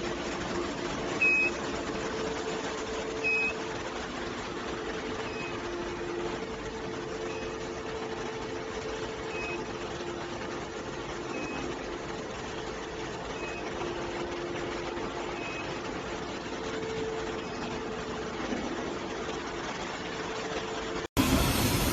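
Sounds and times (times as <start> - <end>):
machinery hum: 0.0 - 21.9.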